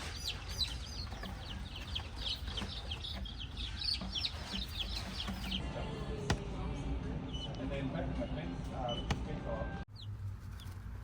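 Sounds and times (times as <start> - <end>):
baby chicks peeping: 0.0 - 6.4, 7.1 - 11.0.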